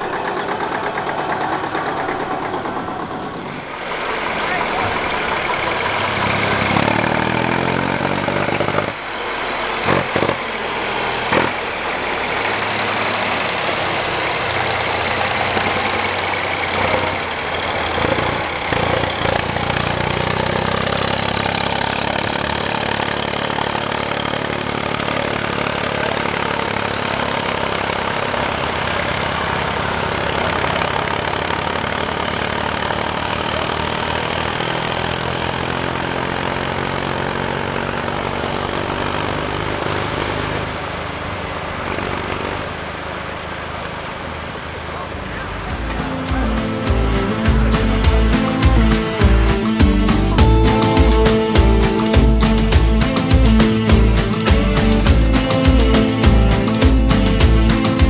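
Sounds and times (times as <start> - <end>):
old engine idling: 0.0 - 58.0.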